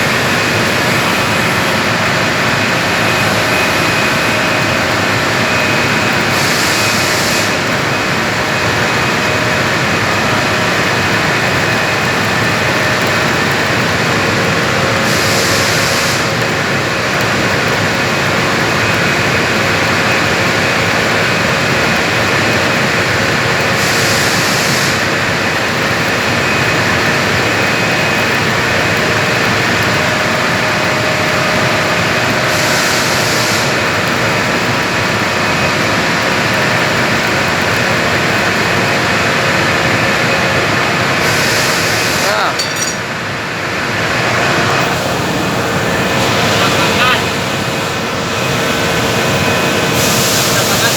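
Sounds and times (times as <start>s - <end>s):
arc welding crackle and hiss: 0.0s - 50.9s.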